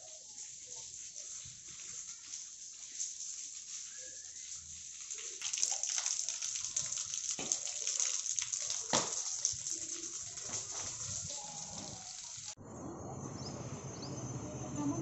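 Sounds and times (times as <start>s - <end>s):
running water: 0.0s - 12.6s.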